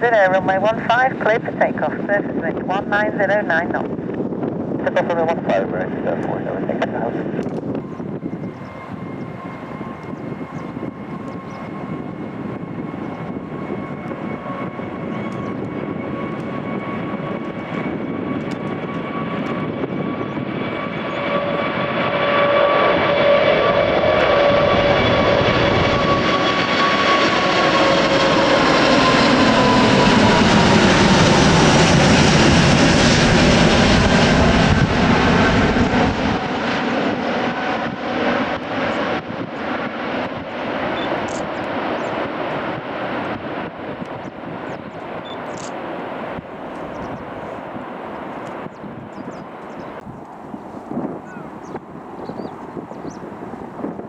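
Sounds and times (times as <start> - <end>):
jet airliner taking off: 0.0 - 54.0.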